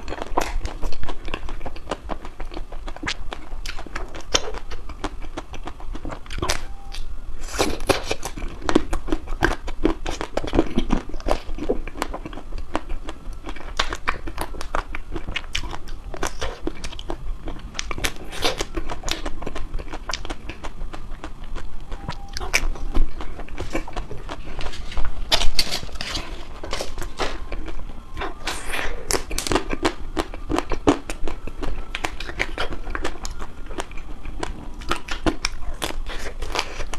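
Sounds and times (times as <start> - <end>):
crunchy chewing: 0.0 - 36.9.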